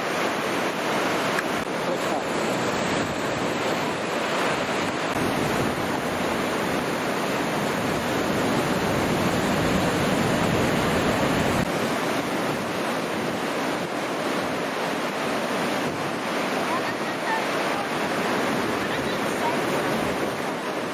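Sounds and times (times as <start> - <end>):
ocean surf breaking: 0.0 - 20.9
wind buffeting microphone: 0.0 - 20.9.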